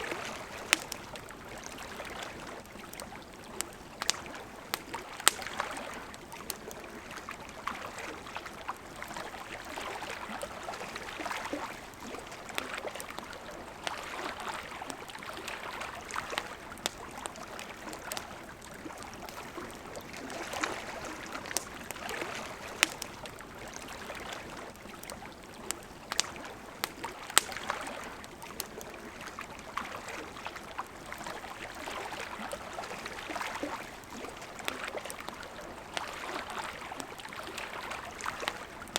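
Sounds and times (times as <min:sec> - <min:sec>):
campfire crackling and popping: 0:00.0 - 0:38.9
river flowing: 0:00.0 - 0:38.9.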